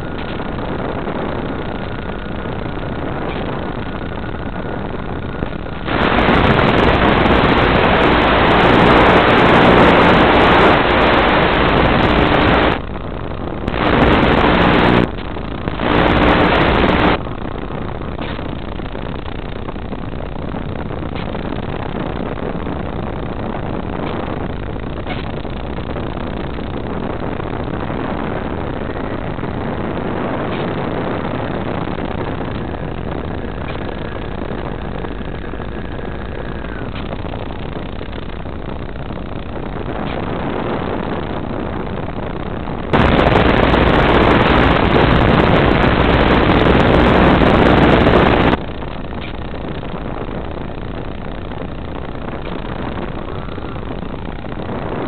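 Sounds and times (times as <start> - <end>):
wind and propeller rushing: 0.0 - 55.0.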